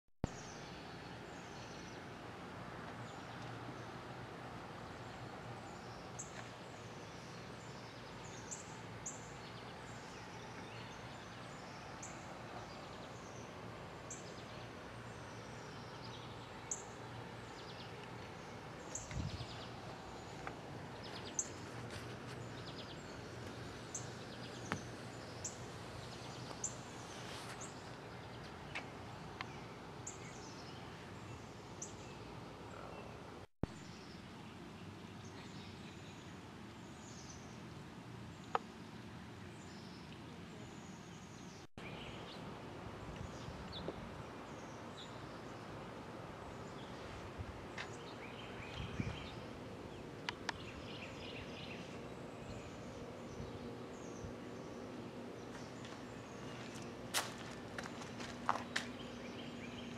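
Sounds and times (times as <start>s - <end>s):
steady low hum: 0.3s - 59.9s
small birds chirping: 4.7s - 59.9s.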